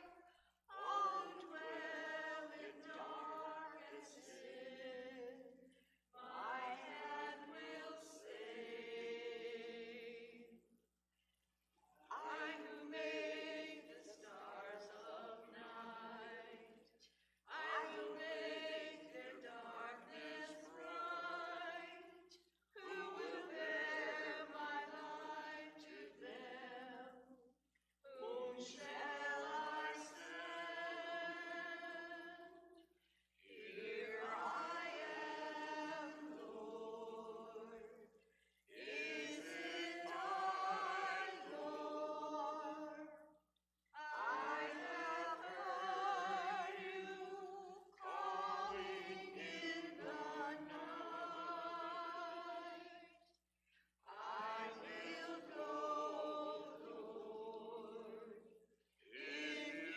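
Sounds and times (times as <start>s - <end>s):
unaccompanied hymn singing: 0.0s - 10.7s, 11.9s - 59.9s.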